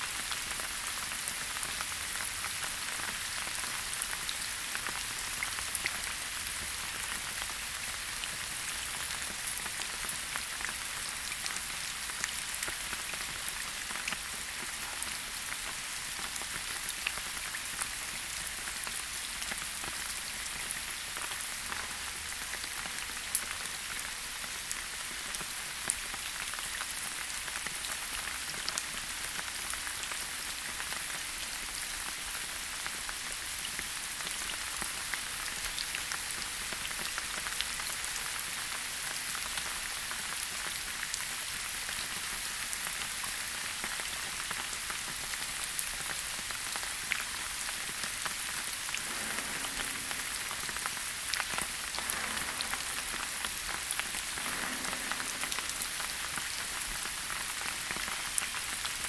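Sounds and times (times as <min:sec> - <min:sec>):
rain falling on foliage: 0:00.1 - 0:59.0.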